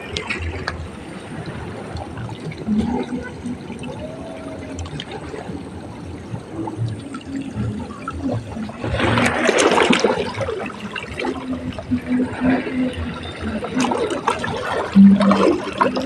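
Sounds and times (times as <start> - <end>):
rush of water: 0.0 - 16.0
water sloshing and splashing: 0.0 - 16.0.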